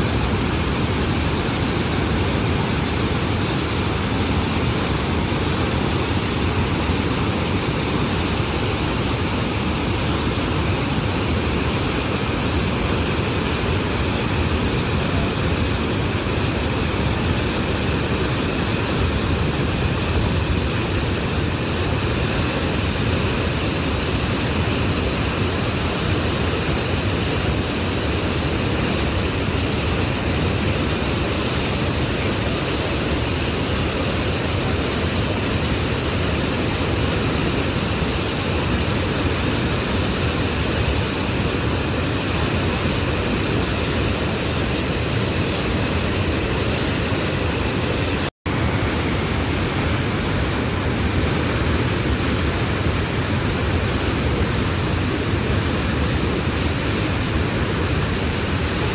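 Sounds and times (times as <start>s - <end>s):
waterfall rushing: 0.0s - 51.3s.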